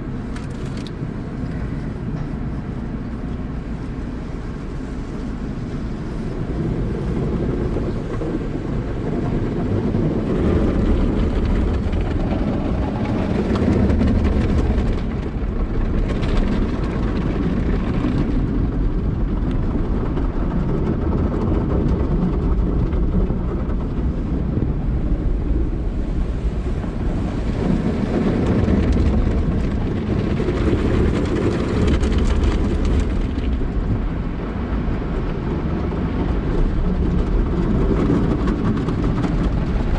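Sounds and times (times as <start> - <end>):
car wash water and machinery: 0.0 - 39.9.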